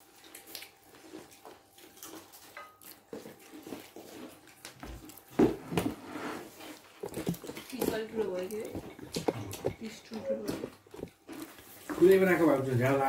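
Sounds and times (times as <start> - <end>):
clicks and rustles of eating: 0.0 - 13.0.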